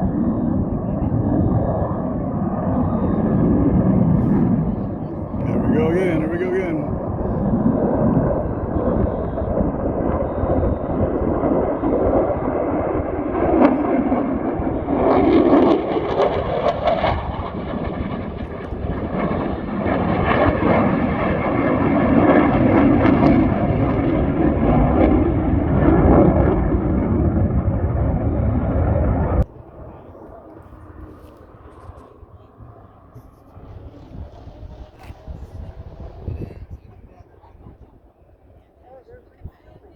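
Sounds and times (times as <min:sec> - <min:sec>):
fighter jet engine roaring: 0:00.0 - 0:36.4.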